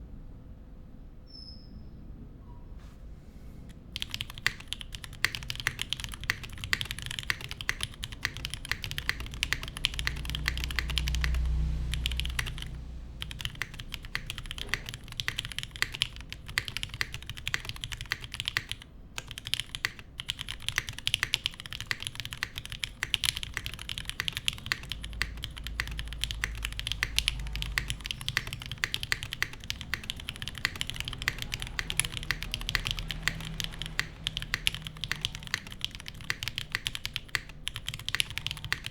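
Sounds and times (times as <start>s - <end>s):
mechanical keyboard typing: 3.7s - 38.9s.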